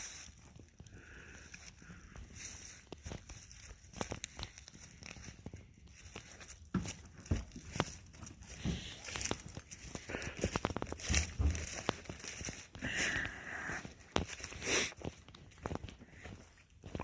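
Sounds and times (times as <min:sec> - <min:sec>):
crinkling and crunching clicks: 0:00.0 - 0:17.0.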